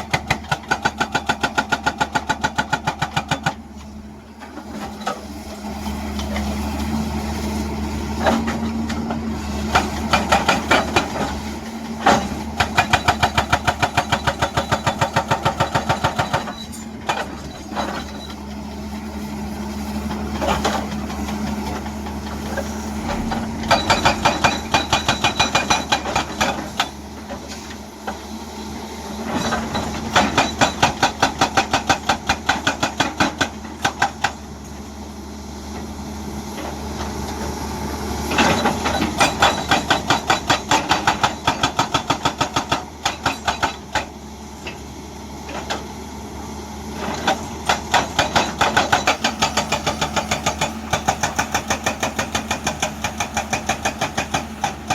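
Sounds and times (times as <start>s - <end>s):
hydraulic breaker pounding rock: 0.0s - 7.1s, 8.0s - 19.2s, 19.8s - 28.3s, 29.2s - 34.6s, 38.2s - 46.0s, 46.9s - 54.9s
diesel engine running: 2.9s - 54.9s.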